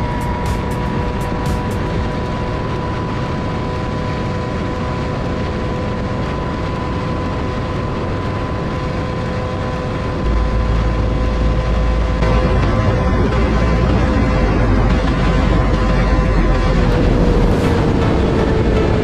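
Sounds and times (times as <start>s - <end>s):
deep rumble: 0.0s - 19.0s.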